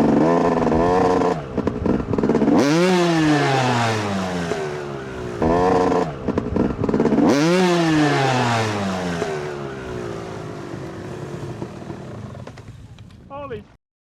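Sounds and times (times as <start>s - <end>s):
dirt bike engine revving: 0.0s - 12.9s.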